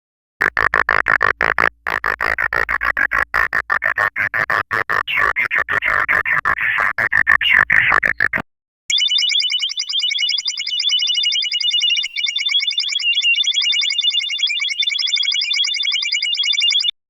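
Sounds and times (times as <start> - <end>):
high electronic bleeps chattering: 0.4 - 16.9.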